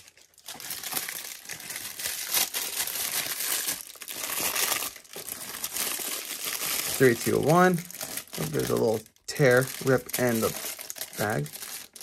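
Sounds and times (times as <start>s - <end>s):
wrapping paper crumpling: 0.0s - 12.0s.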